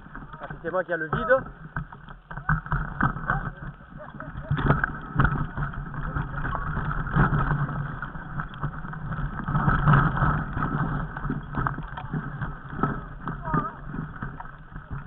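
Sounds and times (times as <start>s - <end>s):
knocks and crunches on rocks: 0.0s - 15.0s
microphone handling rumble: 0.0s - 15.0s
wind noise on microphone: 0.0s - 15.0s.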